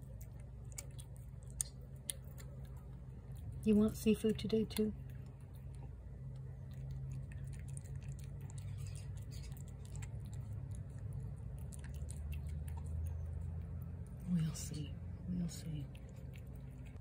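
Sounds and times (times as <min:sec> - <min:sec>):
cat chewing and lapping food: 0:00.0 - 0:17.0
steady low hum: 0:00.0 - 0:17.0.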